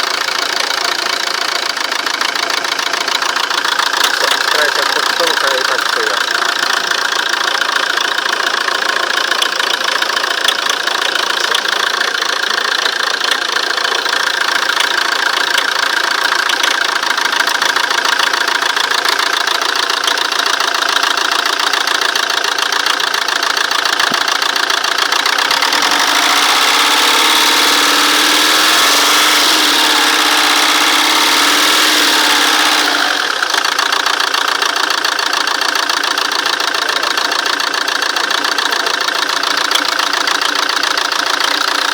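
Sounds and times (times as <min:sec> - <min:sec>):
diesel engine idling with knock: 0:00.0 - 0:41.9.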